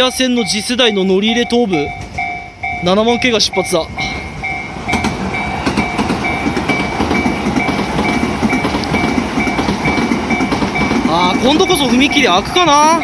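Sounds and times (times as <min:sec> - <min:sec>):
level crossing warning bell: 0:00.0 - 0:13.0
train rumble and wheel clatter: 0:00.0 - 0:13.0.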